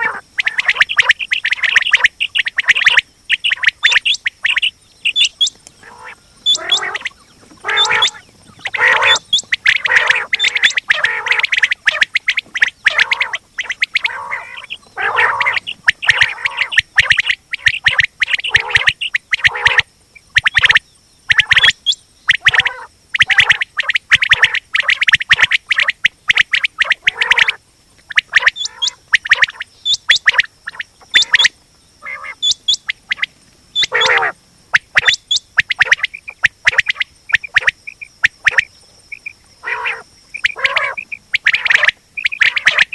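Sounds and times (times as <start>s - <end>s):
quails calling: 0.0s - 42.9s.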